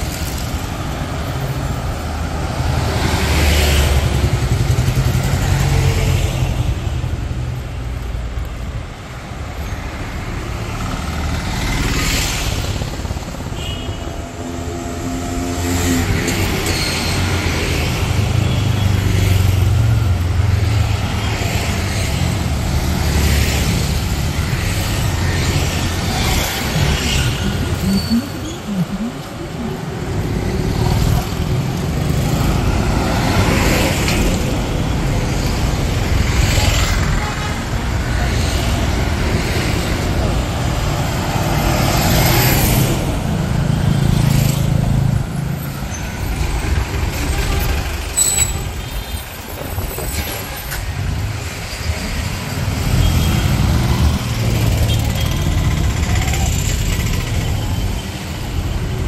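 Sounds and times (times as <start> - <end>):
road traffic rumble: 0.0 - 59.0
vehicles passing: 0.0 - 59.0.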